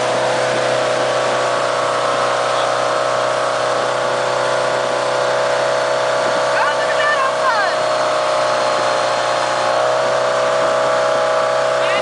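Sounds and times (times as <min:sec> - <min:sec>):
motorboat engine running: 0:00.0 - 0:12.0
water rushing from wake: 0:00.0 - 0:12.0.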